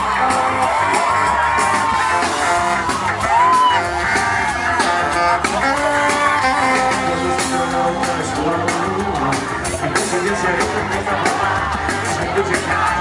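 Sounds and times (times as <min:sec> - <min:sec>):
electric guitar lead: 0:00.0 - 0:11.0
live rock band playing: 0:00.0 - 0:13.0.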